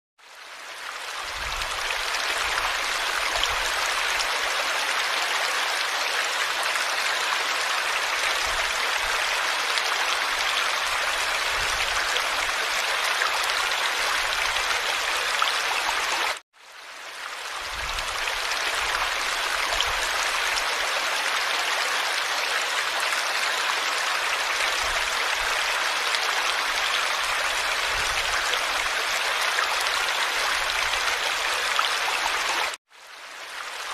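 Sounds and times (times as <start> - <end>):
running water rushing: 0.3 - 33.9.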